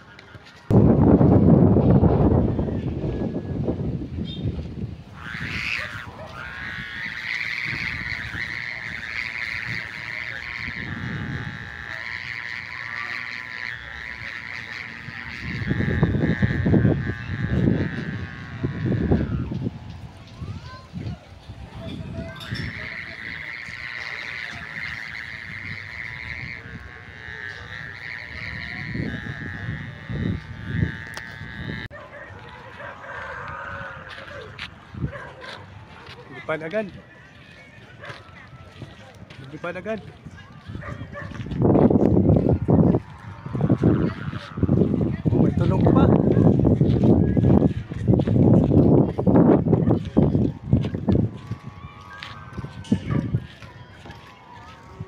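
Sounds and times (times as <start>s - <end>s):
kite hummer buzzing: 0.0s - 55.0s
wind rumbling on microphone: 0.0s - 55.0s.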